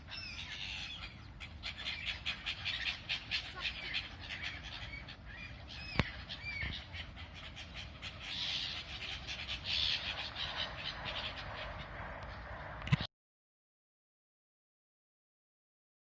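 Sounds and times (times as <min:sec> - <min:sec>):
birds squawking and calling: 0:00.0 - 0:13.1.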